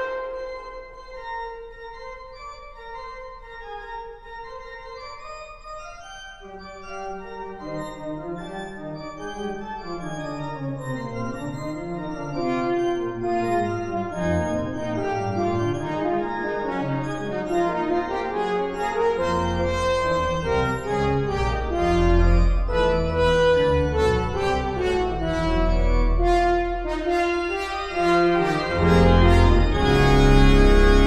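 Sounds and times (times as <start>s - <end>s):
organ playing chords: 0.0s - 5.2s, 6.2s - 31.0s.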